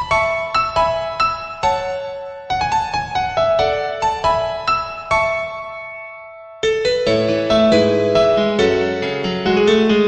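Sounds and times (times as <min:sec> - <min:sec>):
gentle piano notes: 0:00.0 - 0:10.0.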